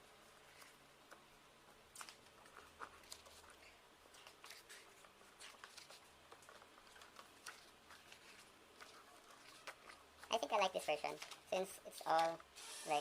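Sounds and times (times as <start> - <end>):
paper rustling: 0.2 - 1.2, 1.9 - 12.4
small clicks of album handling: 0.4 - 10.4, 11.0 - 11.5.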